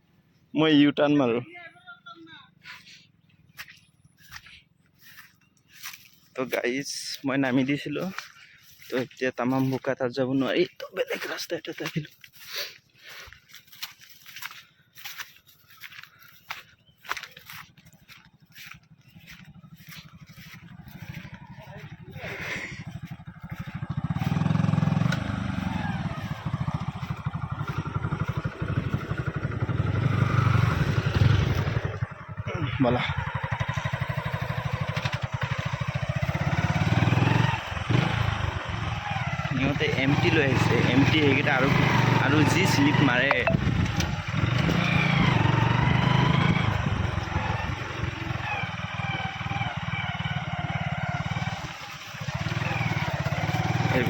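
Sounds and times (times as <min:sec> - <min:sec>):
motorcycle engine revving: 0:03.3 - 0:09.8, 0:10.4 - 0:54.0.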